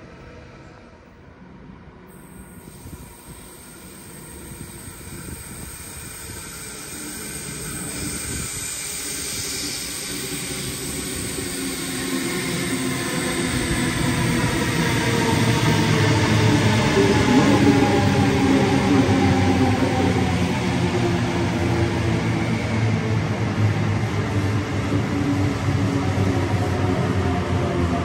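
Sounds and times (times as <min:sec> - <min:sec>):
train rumbling through tunnel: 0:00.0 - 0:28.0.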